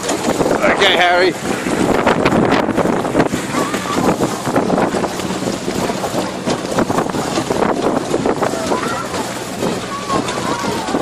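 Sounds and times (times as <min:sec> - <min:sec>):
carriages rattling: 0:00.0 - 0:11.0
wind buffeting microphone: 0:00.0 - 0:11.0.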